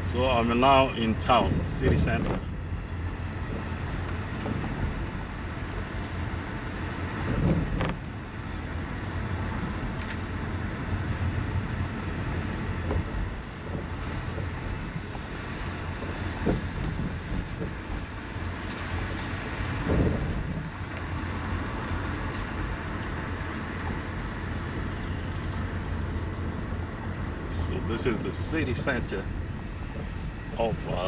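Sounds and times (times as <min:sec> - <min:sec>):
road and engine rumble inside car: 0:00.0 - 0:31.0.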